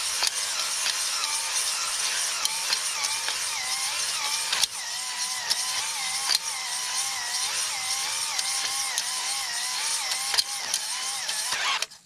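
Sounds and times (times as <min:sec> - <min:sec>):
drill motor whine: 0:00.0 - 0:12.0
stones scraping cylinder wall: 0:00.0 - 0:12.0.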